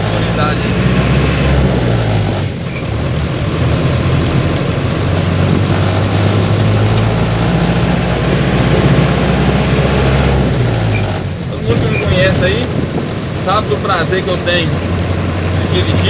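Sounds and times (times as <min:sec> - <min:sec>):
bus diesel engine running: 0:00.0 - 0:16.0
tyre and road noise: 0:00.0 - 0:16.0.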